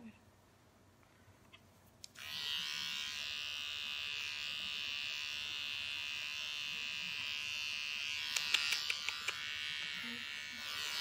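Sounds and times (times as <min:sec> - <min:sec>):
electric pet trimmer buzzing: 0:02.2 - 0:11.0.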